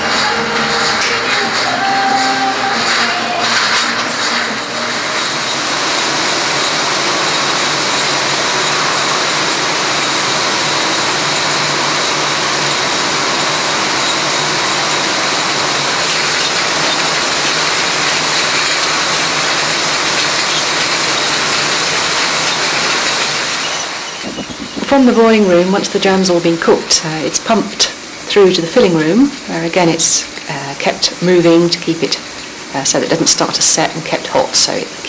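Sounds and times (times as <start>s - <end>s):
conveyor line carrying glass jars: 0.0s - 35.0s.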